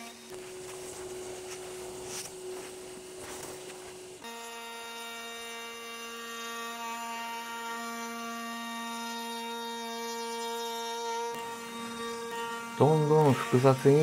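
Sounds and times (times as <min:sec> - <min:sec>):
router cutting wood: 0:00.0 - 0:02.4, 0:04.2 - 0:14.0
router motor whine: 0:00.0 - 0:14.0.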